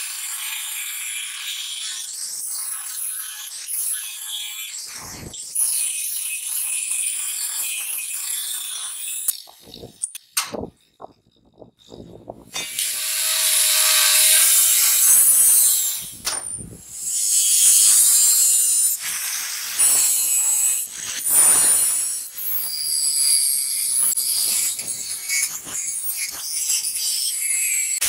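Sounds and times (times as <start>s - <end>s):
angle grinder cutting steel: 0.0s - 11.0s, 11.8s - 28.0s.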